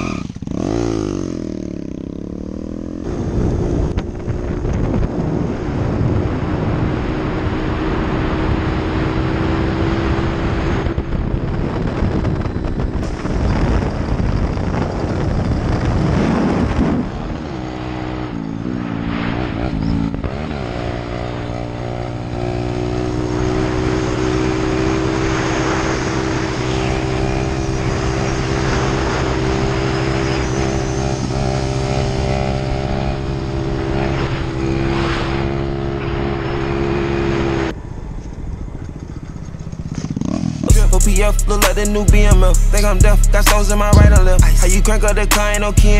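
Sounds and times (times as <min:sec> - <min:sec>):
vehicle engine running: 0:00.0 - 0:08.5, 0:10.2 - 0:45.9.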